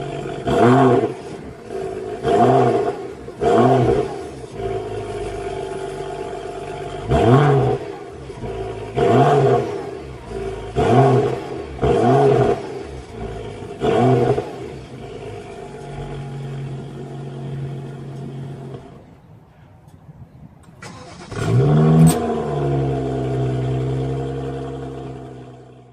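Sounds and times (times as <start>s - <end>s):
car engine idling and revving: 0.0s - 19.4s, 20.6s - 25.9s.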